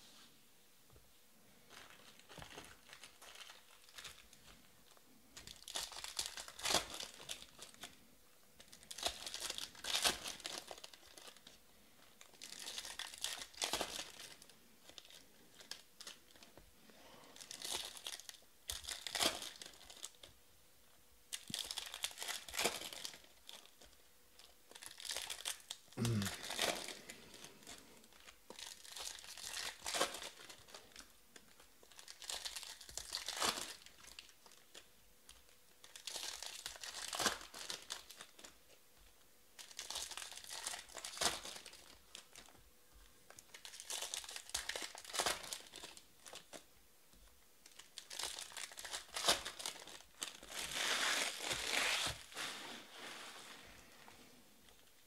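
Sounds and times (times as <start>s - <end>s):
foil wrappers crinkling and tearing: 1.6s - 20.4s, 21.3s - 38.7s, 39.6s - 54.0s.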